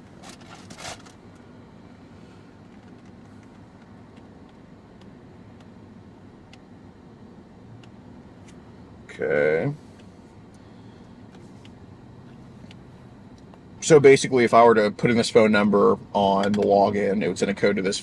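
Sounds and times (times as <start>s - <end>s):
car cabin hum: 0.0s - 18.0s.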